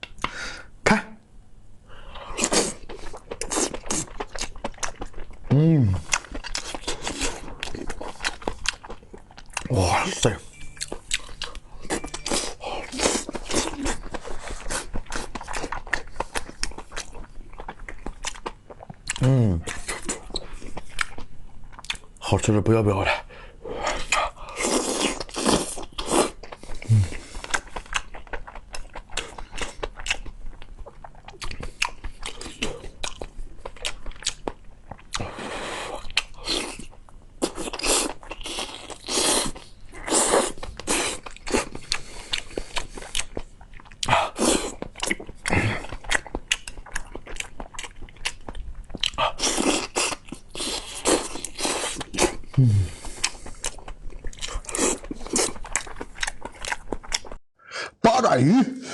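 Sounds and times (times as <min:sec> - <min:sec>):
person crunching and chewing food: 0:02.1 - 0:22.3, 0:23.8 - 0:57.4.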